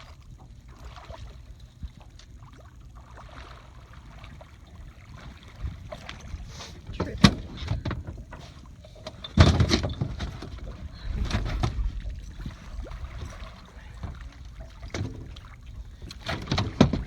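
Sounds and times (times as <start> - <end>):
knocks and thumps in boat: 0.0 - 17.0.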